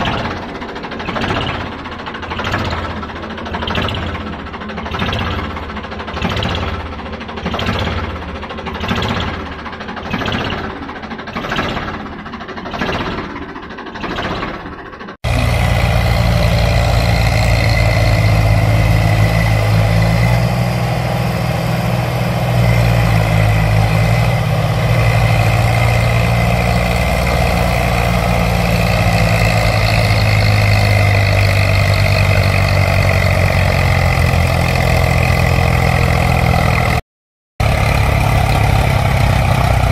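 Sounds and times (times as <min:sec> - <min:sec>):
vehicle engine running: 0:00.0 - 0:37.0, 0:37.6 - 0:39.9.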